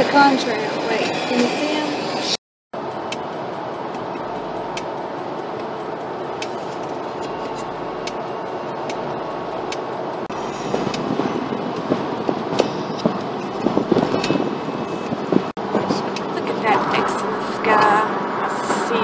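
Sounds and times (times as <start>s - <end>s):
rough rumble: 2.2s - 19.0s
car road noise inside cabin: 2.8s - 19.0s.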